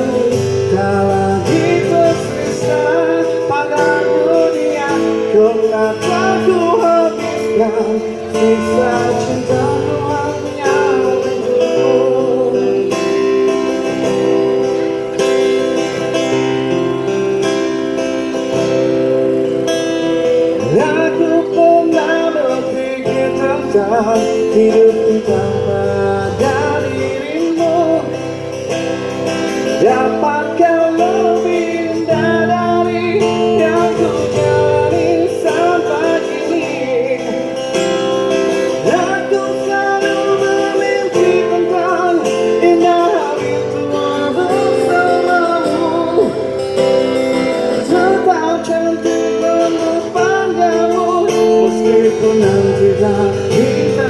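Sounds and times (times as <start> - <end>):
person singing: 0.0 - 16.2, 19.4 - 54.0
acoustic guitar chords: 0.0 - 54.0.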